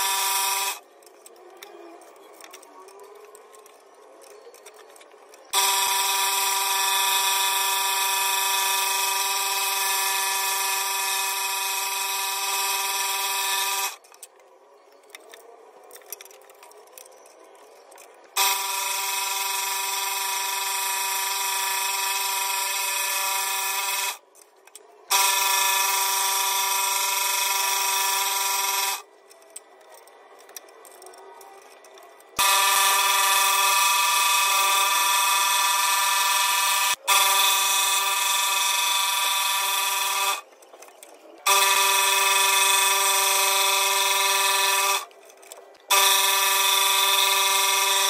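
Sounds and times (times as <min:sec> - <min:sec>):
scroll saw buzzing: 0:00.0 - 0:14.4, 0:17.6 - 0:48.0.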